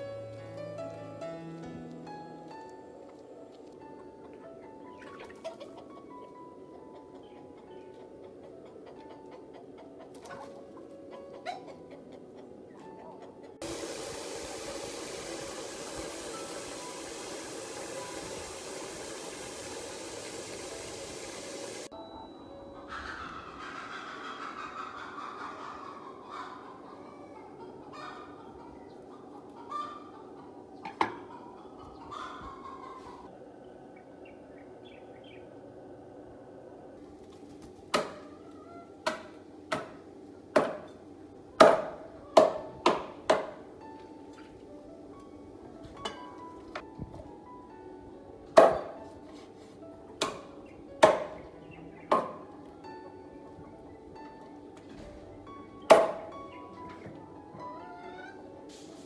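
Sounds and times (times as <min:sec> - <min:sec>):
faint background music: 0:00.0 - 0:59.0
chickens clucking: 0:02.2 - 0:22.0, 0:22.7 - 0:43.5, 0:48.4 - 0:59.0.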